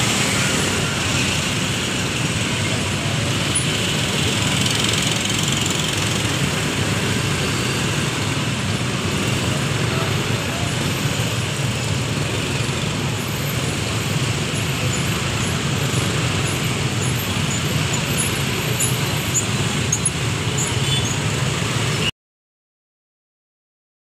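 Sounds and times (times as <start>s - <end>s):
traffic engine and tyre noise: 0.0s - 22.1s.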